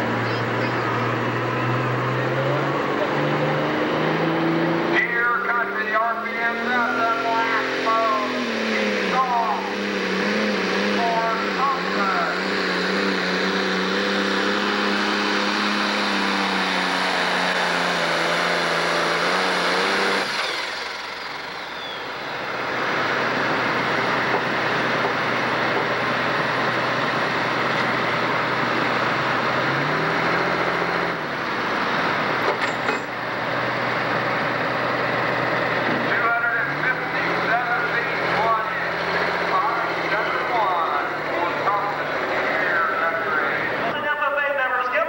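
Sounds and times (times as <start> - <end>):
diesel tractor engine at full throttle: 0.0 - 45.0.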